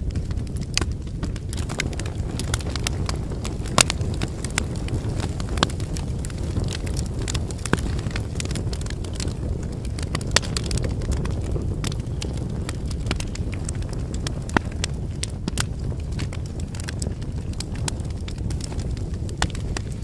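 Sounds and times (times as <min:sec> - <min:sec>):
firewood popping and crackling: 0:00.0 - 0:20.0
low rumble of flames: 0:00.0 - 0:20.0.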